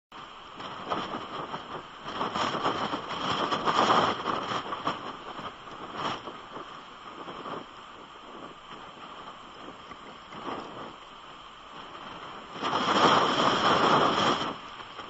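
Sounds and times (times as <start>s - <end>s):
driving rain: 0.1s - 15.0s
strong gusty wind: 0.1s - 15.0s.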